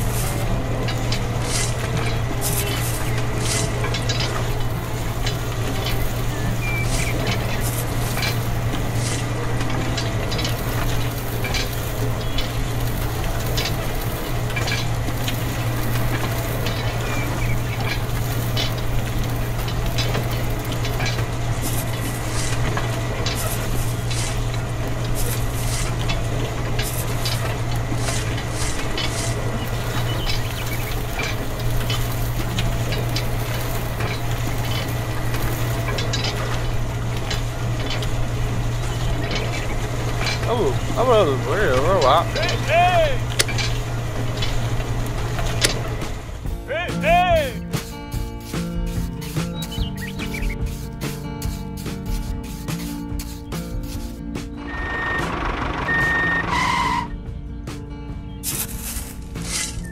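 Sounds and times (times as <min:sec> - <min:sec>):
small motor hum: 0:00.0 - 0:46.4, 0:54.7 - 0:56.8
grains rattling over mesh: 0:00.0 - 0:46.5, 0:47.1 - 0:54.2, 0:54.8 - 0:57.0, 0:58.4 - 0:59.9.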